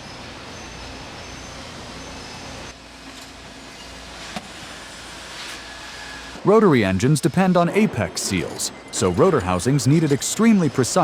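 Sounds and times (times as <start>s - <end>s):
factory machinery hum: 0.0s - 11.0s.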